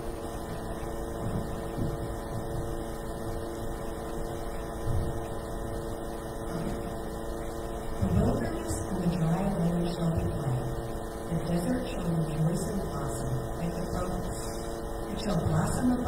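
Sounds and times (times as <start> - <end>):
electrical hum tones: 0.0 - 16.0
low room rumble: 0.0 - 16.0.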